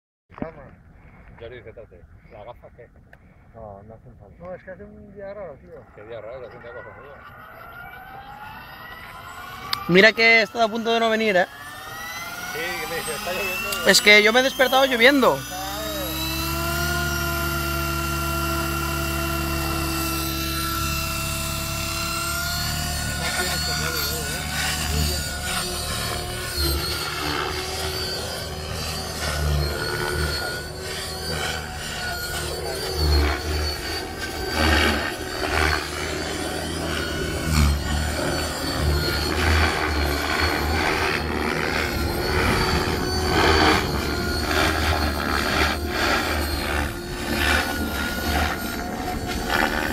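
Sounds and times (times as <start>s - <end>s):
model helicopter motor whine: 4.7s - 49.9s
rotor blades whooshing: 5.8s - 49.9s.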